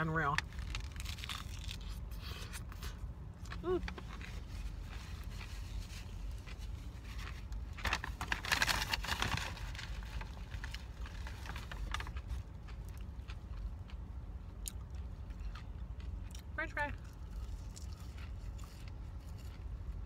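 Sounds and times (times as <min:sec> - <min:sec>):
low steady hum: 0:00.0 - 0:20.0
chewing crisp lettuce: 0:00.4 - 0:20.0.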